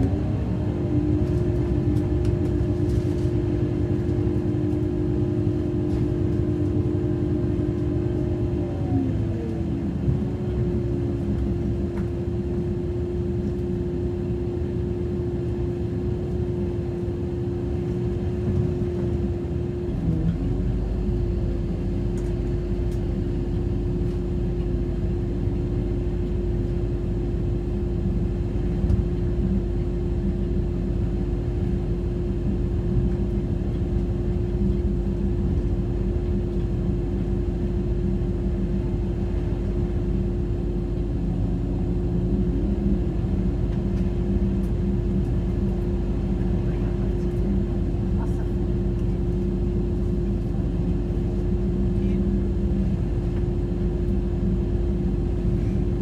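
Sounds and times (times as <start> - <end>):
train running gear rumble: 0.0 - 56.0
train whine: 0.0 - 56.0.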